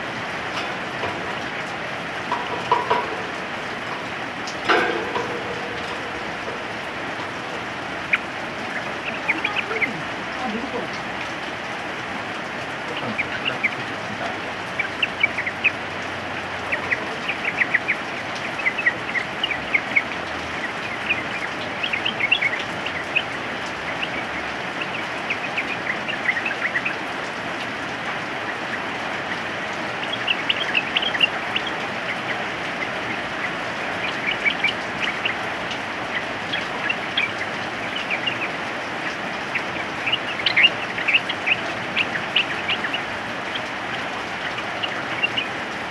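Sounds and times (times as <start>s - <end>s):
bulbuls chirping: 0.0s - 45.9s
steady rain hiss: 0.0s - 45.9s.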